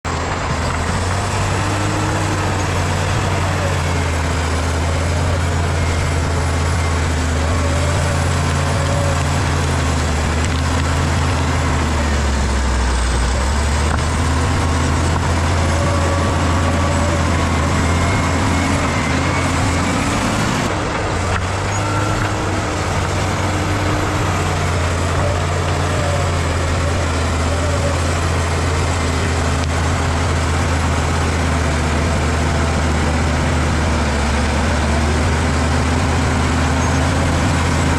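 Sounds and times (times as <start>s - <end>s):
bulldozer diesel engine droning: 0.0s - 37.9s.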